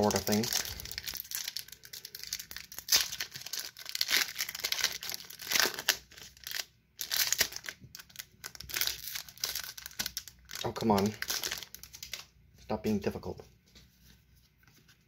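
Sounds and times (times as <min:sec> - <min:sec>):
foil wrapper tearing and crinkling: 0:00.0 - 0:12.3.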